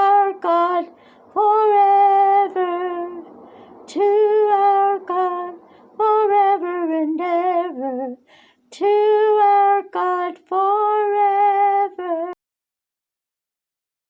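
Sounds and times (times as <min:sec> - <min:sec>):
woman singing devotional chant: 0:00.0 - 0:12.4.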